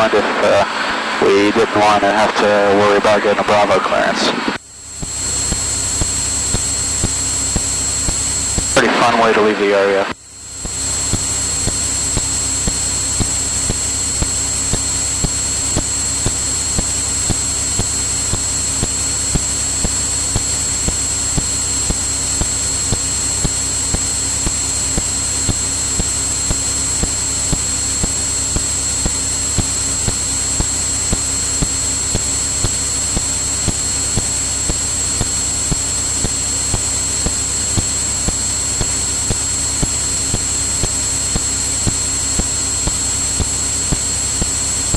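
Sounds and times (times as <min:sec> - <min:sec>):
light aircraft cabin drone: 0:00.0 - 0:44.9.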